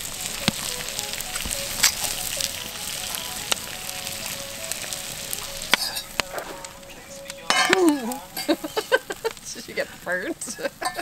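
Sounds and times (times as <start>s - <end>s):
sharp pops: 0.0s - 9.6s
oysters sizzling in a skillet: 0.0s - 11.0s.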